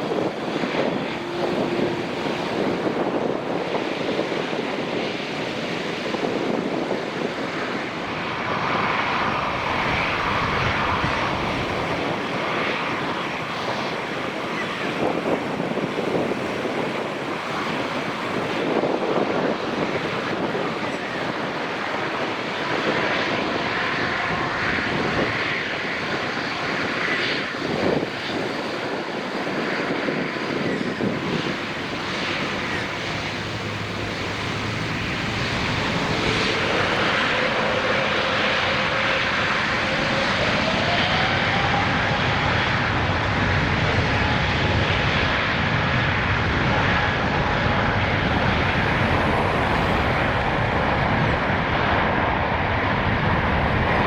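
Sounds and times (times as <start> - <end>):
jet engines at takeoff power: 0.0 - 54.0.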